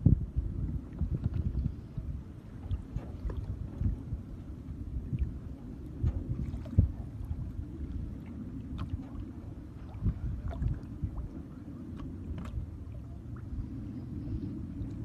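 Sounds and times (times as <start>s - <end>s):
low wind rumble: 0.0s - 15.0s
water splashing against boat hull: 0.7s - 13.8s.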